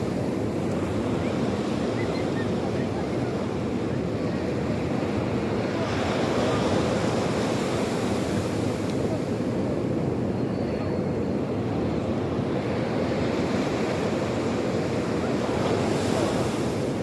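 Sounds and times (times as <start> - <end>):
sea surf washing onto shore: 0.0 - 10.3, 11.5 - 17.0.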